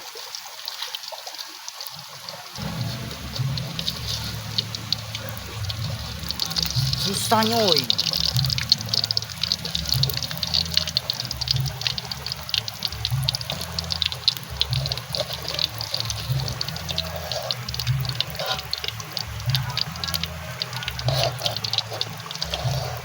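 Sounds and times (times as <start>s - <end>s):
hot oil sizzling and popping: 0.0s - 23.0s
low beat: 2.6s - 23.0s.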